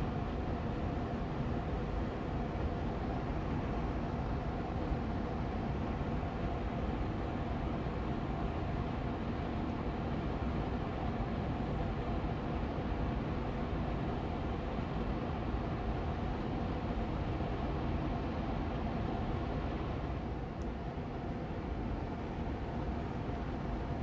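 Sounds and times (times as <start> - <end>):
air purifier fan hum: 0.0 - 24.0.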